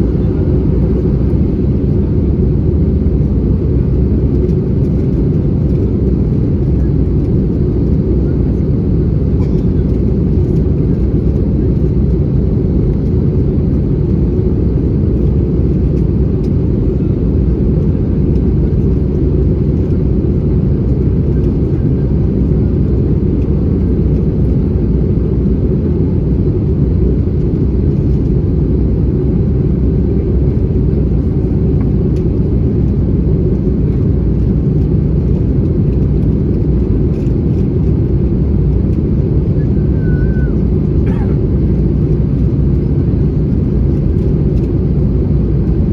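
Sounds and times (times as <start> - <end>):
airplane cabin roar: 0.0 - 45.9.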